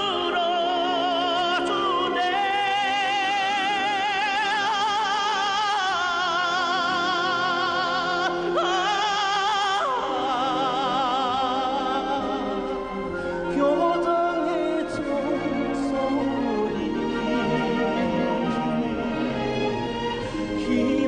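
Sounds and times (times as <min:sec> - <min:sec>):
musical accompaniment: 0:00.0 - 0:21.0
operatic singing with vibrato: 0:00.0 - 0:21.0.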